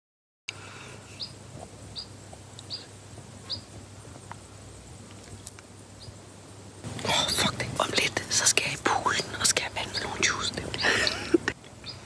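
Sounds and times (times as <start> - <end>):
faint low hum: 0.5 - 12.0
bird chirping: 1.0 - 4.5, 5.1 - 12.0.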